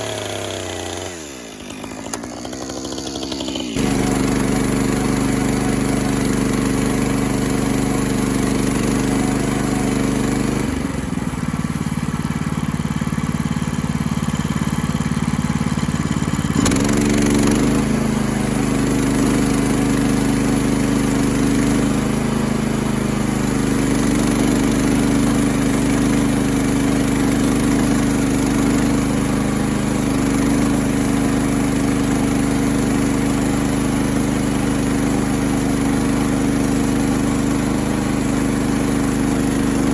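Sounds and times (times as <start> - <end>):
gasoline engine running: 0.0 - 39.9.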